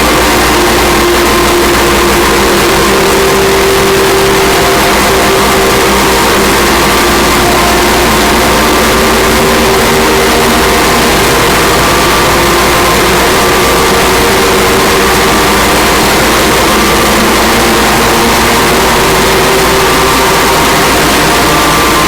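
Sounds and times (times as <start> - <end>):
distorted electronic drone: 0.0 - 22.0.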